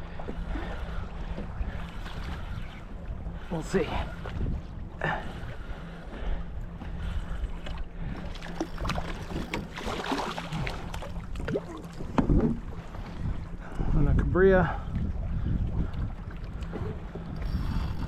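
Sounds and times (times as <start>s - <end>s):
wind on microphone: 0.0s - 9.7s, 10.5s - 18.0s
low hum: 0.0s - 18.0s
water splashing against hull: 0.0s - 18.0s.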